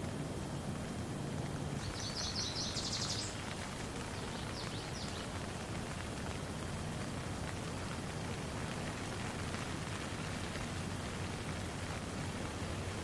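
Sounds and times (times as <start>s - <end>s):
rain falling on a pond: 0.0s - 13.0s.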